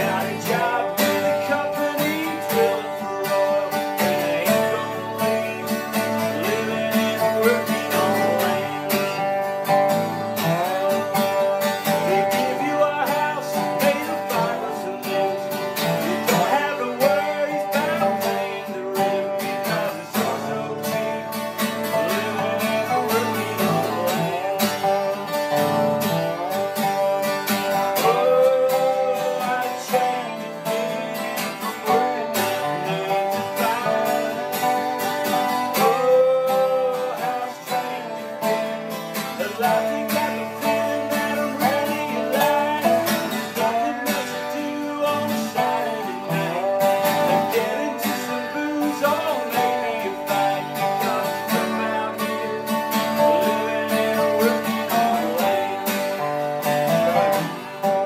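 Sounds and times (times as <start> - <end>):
slide guitar melody: 0.0 - 58.0
strummed acoustic guitar: 0.0 - 58.0.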